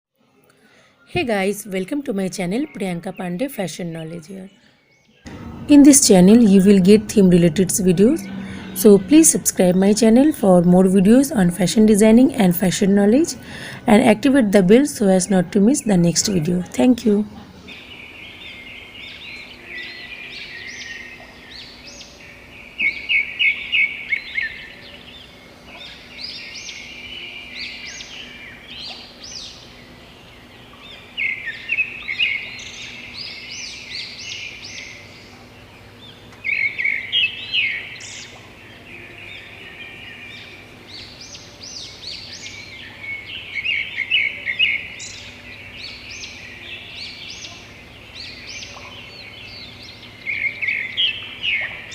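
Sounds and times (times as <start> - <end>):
small birds chirping: 0.6 - 51.9.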